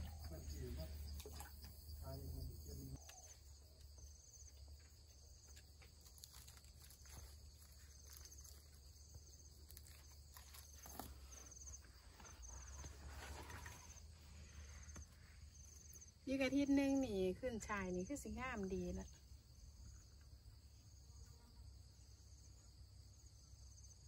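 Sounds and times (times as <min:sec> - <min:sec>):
insect chirping trills: 0:00.0 - 0:24.0.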